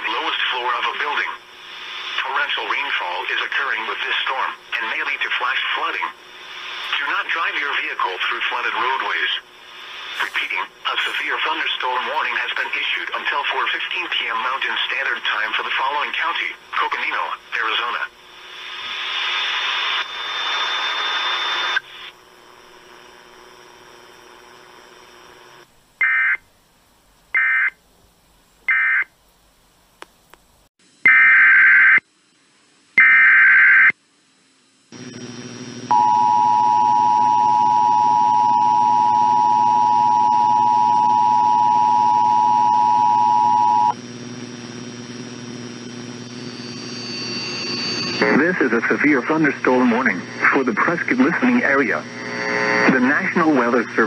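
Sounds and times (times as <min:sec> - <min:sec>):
radio static hiss: 0:00.0 - 0:26.3, 0:33.8 - 0:54.0.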